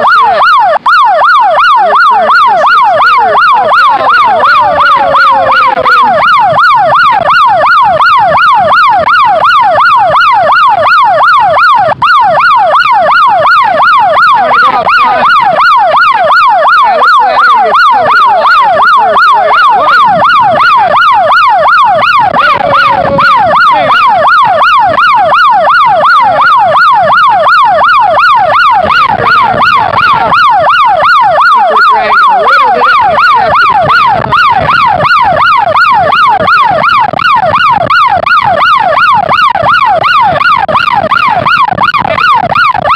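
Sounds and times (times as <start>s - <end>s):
siren-like warbling tone: 0.0s - 42.9s.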